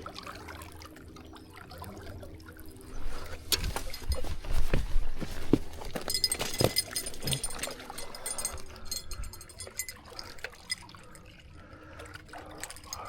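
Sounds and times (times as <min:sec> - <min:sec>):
water sloshing and trickling: 0:00.0 - 0:13.0.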